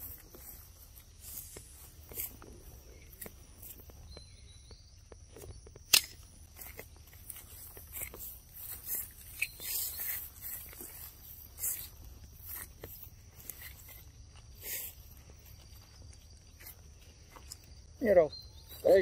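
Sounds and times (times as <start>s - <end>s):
footsteps in dry leaves: 0.0s - 4.2s, 6.4s - 19.0s.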